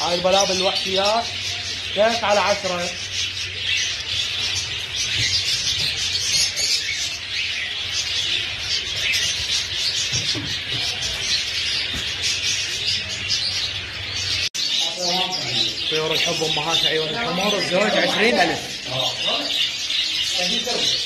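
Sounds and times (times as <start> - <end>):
caged birds chirping: 0.0 - 21.0.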